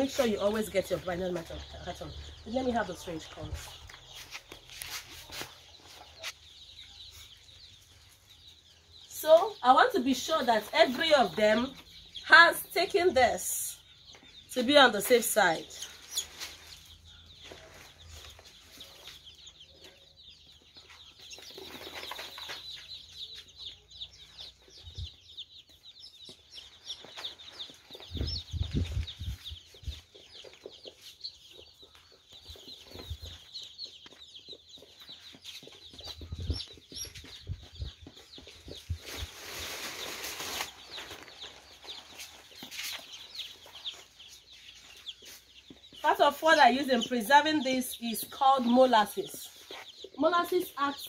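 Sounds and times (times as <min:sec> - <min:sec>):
chicks peeping: 0:00.0 - 0:51.0.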